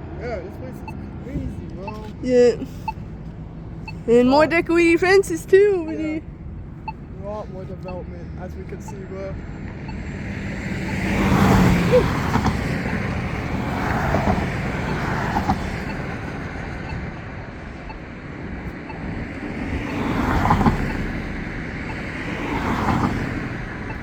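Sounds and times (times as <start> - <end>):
cars passing: 0.0 - 24.0
steady traffic noise: 0.0 - 24.0.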